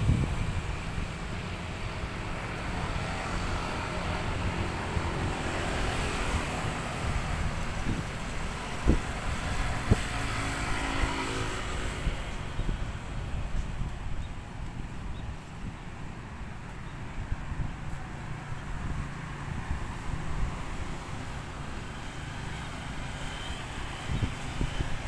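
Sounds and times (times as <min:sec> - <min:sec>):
traffic rumble and hiss: 0:00.0 - 0:25.0.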